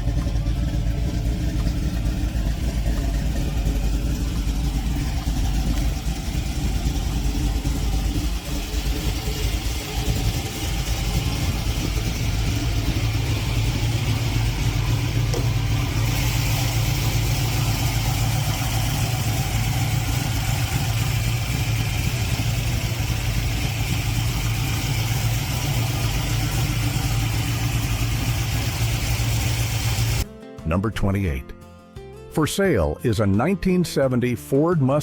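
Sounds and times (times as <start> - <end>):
car engine idling: 0.0 - 30.2.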